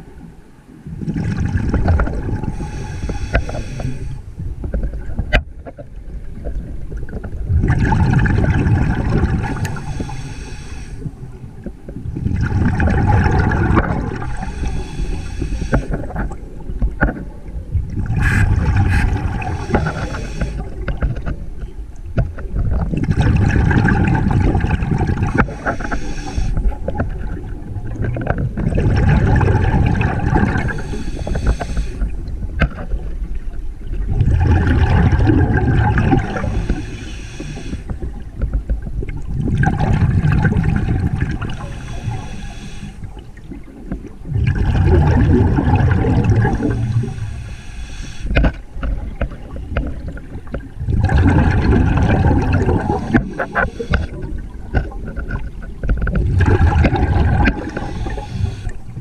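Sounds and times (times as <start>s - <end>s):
exhaled bubbles gurgling underwater: 0.0s - 59.0s.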